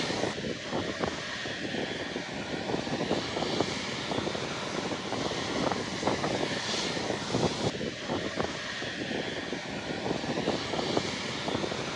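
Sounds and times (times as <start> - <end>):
jet engines running: 0.0 - 11.9.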